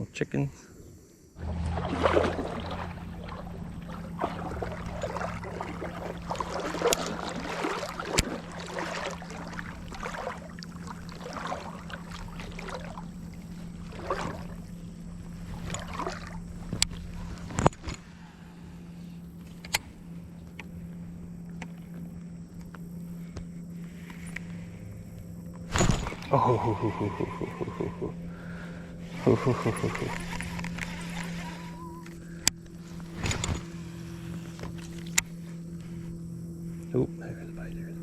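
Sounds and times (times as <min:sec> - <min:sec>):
boat motor humming: 0:01.3 - 0:38.0
water sounds: 0:01.4 - 0:38.0.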